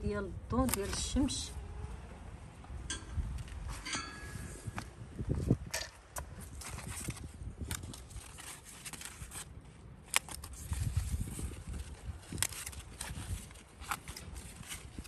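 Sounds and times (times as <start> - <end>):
leaves rustling against phone: 0.5 - 2.0, 3.5 - 15.0.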